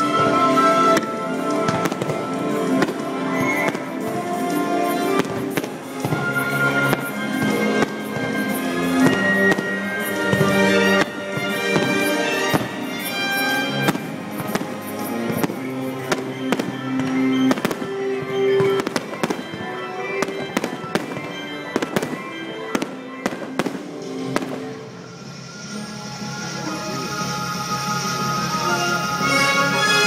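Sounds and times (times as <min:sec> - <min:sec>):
fireworks bursting: 0:00.0 - 0:30.0
show music with held notes: 0:00.0 - 0:30.0.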